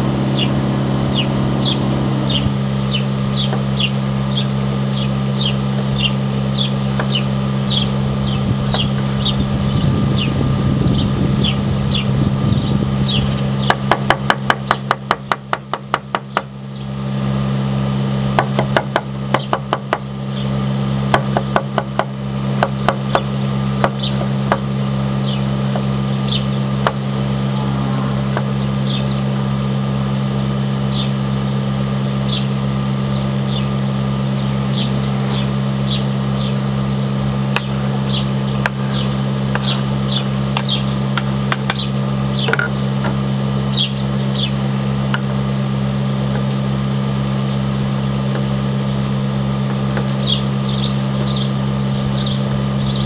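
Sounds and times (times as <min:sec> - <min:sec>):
low hum with throb: 0:00.0 - 0:53.0.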